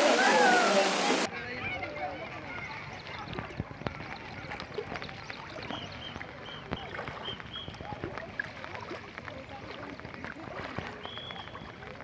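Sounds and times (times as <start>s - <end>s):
faint voices: 0.0s - 12.0s
floodwater rushing: 0.0s - 12.0s.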